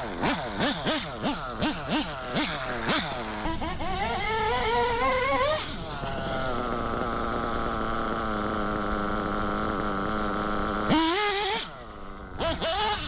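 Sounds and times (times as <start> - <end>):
nitro rc engine revving: 0.0 - 13.0.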